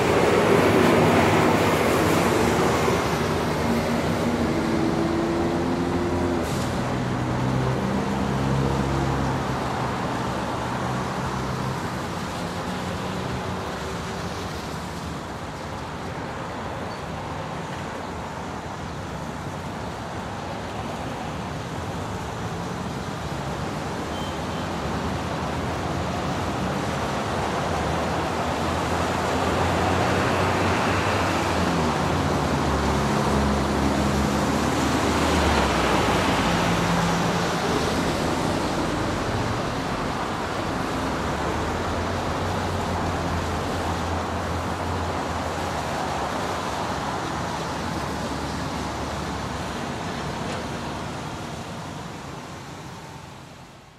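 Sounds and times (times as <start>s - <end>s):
tyre hiss on wet road: 0.0s - 53.9s.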